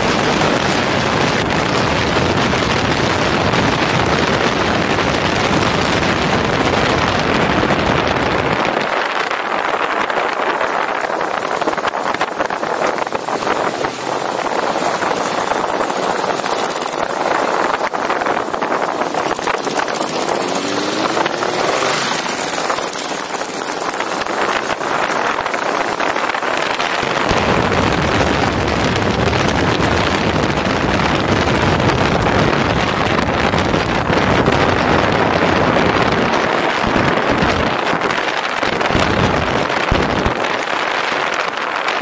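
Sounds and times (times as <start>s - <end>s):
motorcycle engine accelerating: 0.0s - 42.0s
wind rushing over microphone: 0.0s - 42.0s.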